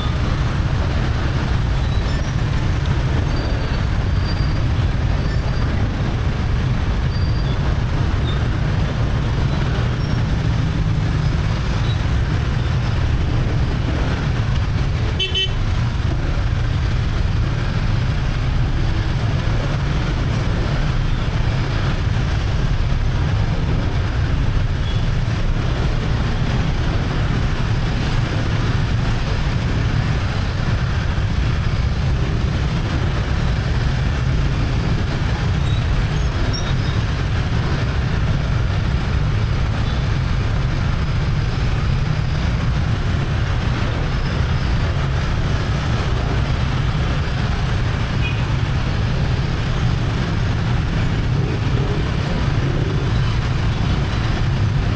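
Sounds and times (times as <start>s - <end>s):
traffic rumble: 0.0s - 54.9s.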